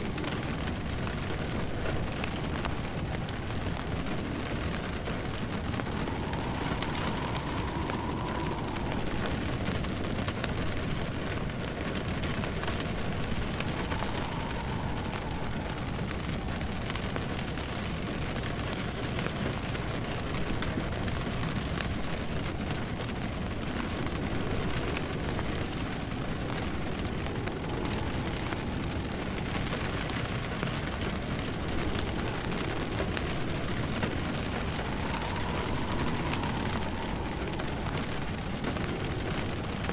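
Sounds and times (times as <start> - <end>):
faint wind howl: 0.0 - 39.9
log fire crackling: 0.0 - 39.9
rain pattering: 0.0 - 39.9.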